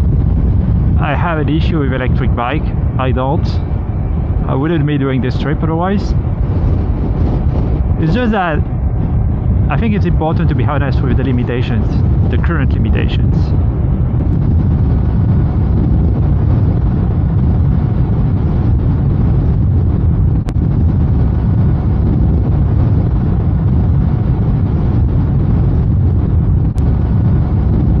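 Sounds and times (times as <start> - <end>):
wind rush on microphone: 0.0 - 28.0.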